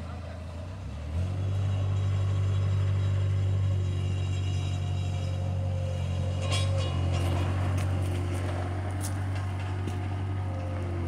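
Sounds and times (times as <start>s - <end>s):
loader engine running: 0.0s - 11.0s.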